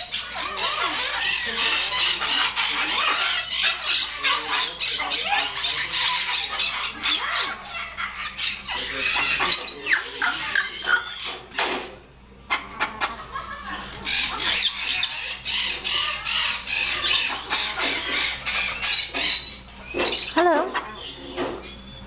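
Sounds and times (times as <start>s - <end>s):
parrots squawking and chattering: 0.0s - 22.0s.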